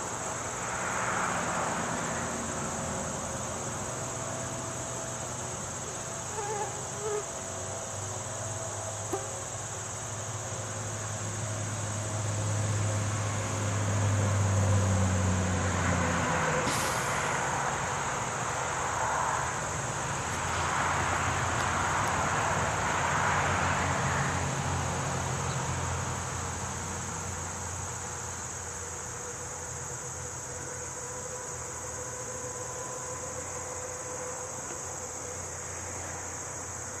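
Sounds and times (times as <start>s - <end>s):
passing vehicle rumble: 0.0s - 6.2s, 9.8s - 37.0s
crickets chirping: 0.0s - 37.0s.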